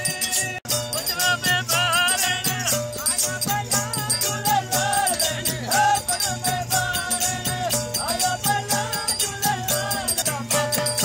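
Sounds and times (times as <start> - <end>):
shaker-like beat: 0.0 - 11.0.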